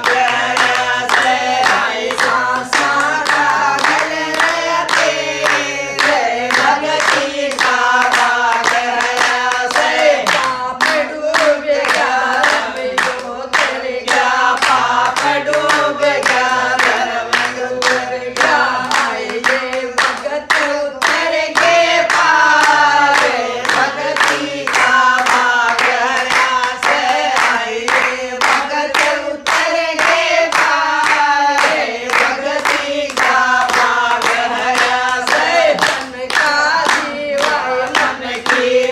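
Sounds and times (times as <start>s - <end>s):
hands clapping in rhythm: 0.0s - 38.9s
women singing in unison: 0.0s - 38.9s.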